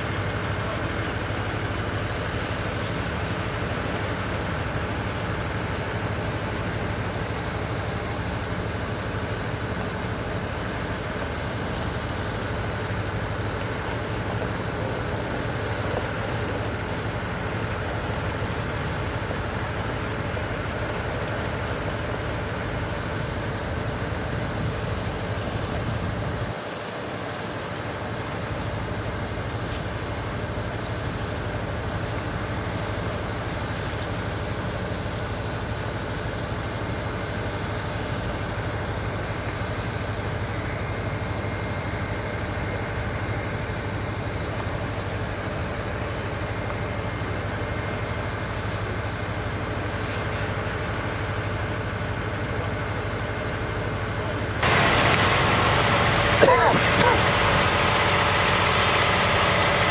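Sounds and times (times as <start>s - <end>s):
construction engines humming: 0.0s - 59.9s.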